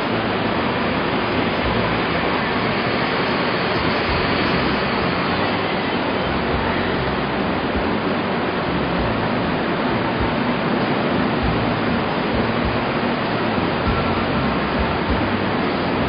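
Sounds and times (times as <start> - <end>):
steady outdoor rushing noise: 0.0 - 16.0.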